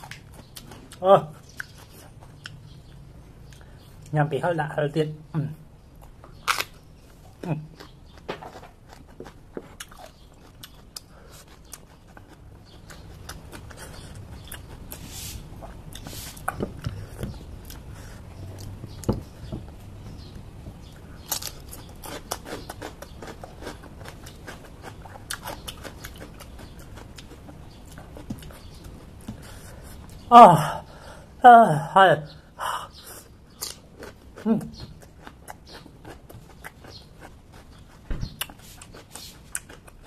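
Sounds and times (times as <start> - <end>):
person chewing crunchy vegetables: 0.0 - 4.1, 5.9 - 30.3, 32.9 - 40.0.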